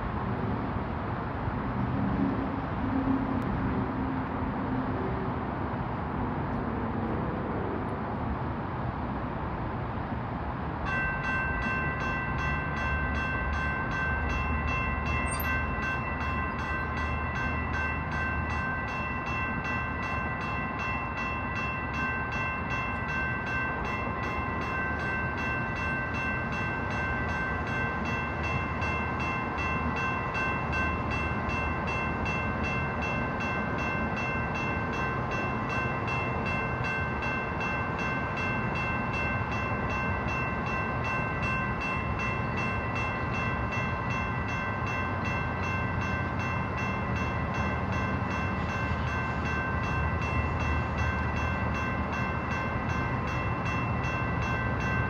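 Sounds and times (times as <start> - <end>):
road traffic: 0.0 - 55.0
crossing warning bells ringing: 10.7 - 55.0.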